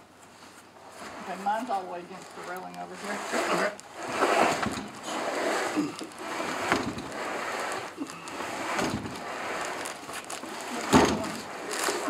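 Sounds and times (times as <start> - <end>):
heavy box scraping on wooden deck: 0.8 - 12.0.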